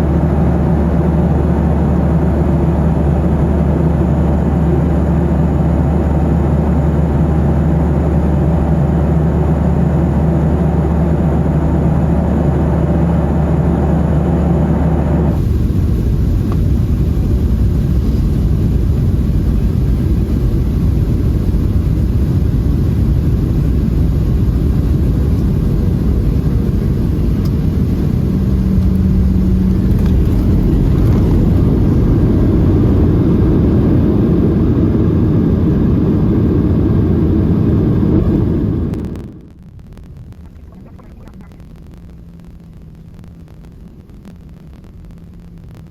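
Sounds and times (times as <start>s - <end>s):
jet engines and airflow in cabin: 0.0s - 45.9s.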